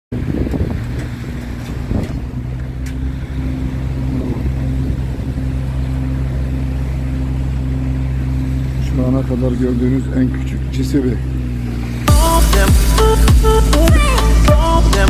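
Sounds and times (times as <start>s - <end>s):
excavator engine idling: 0.2s - 15.0s.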